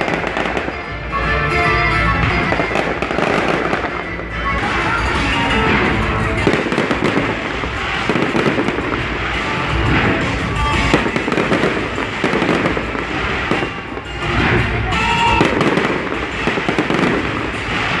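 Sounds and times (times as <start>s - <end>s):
fireworks bangs: 0.0s - 1.5s, 2.2s - 18.0s
fireworks crackling: 0.0s - 18.0s.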